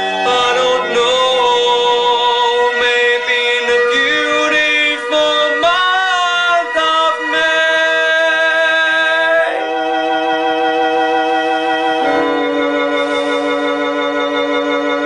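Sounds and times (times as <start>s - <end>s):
sustained background notes: 0.0s - 15.0s.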